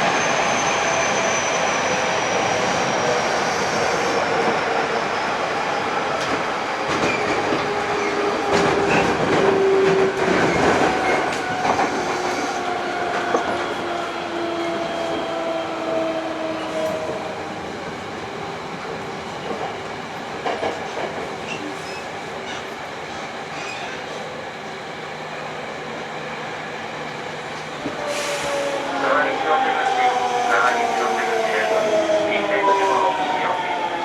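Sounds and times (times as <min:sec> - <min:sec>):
train wheels on rail: 0:00.0 - 0:34.0.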